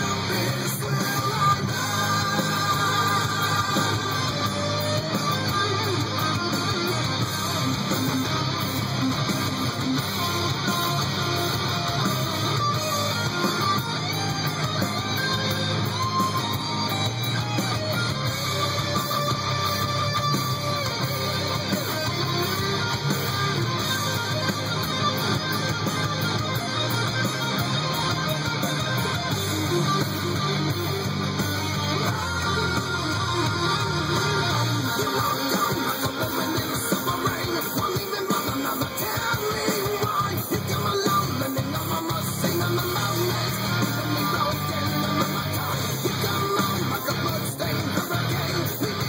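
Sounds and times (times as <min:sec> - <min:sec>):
guitar rock music: 0:00.0 - 0:49.0.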